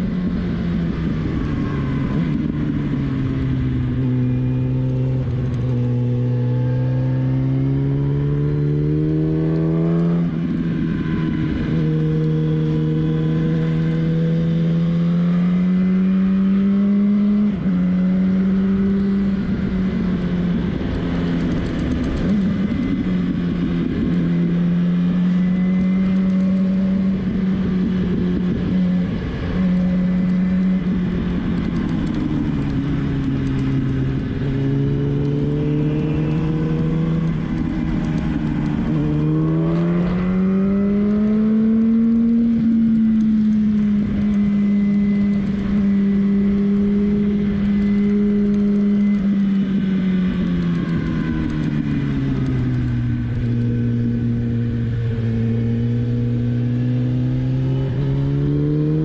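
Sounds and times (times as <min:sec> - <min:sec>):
motorcycle engine revving: 0:00.0 - 0:59.0
rushing wind: 0:00.0 - 0:59.0.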